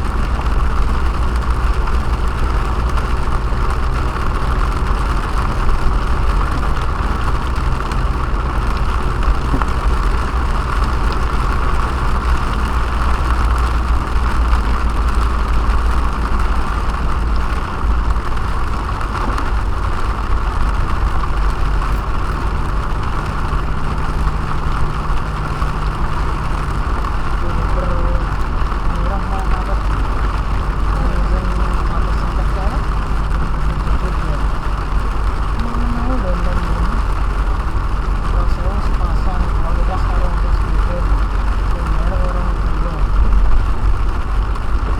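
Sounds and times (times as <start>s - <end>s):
car engine and road rumble: 0.0s - 44.9s
rain and wet tyres hiss: 0.0s - 44.9s.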